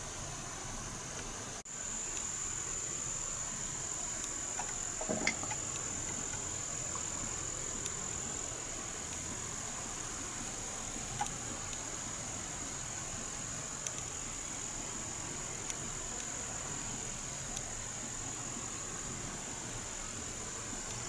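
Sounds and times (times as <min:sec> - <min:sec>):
insect trill: 0:00.0 - 0:21.0
rain hiss: 0:00.0 - 0:21.0.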